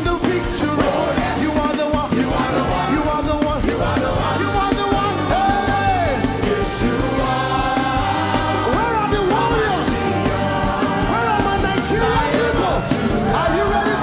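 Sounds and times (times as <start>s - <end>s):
live band playing music: 0.0s - 14.0s
voices singing: 0.0s - 14.0s.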